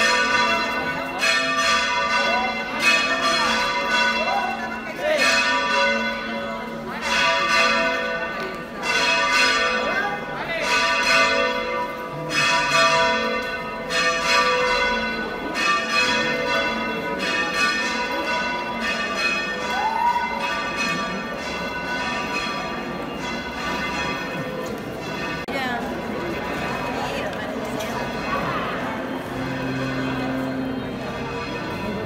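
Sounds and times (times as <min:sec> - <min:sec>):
church bells ringing: 0:00.0 - 0:32.0
faint voices: 0:00.0 - 0:32.0.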